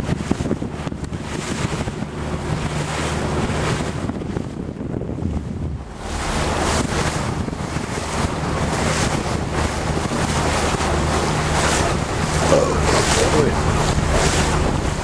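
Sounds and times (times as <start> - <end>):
low engine hum: 0.0 - 15.0
water rushing along hull: 0.0 - 15.0
wind buffeting microphone: 0.0 - 15.0.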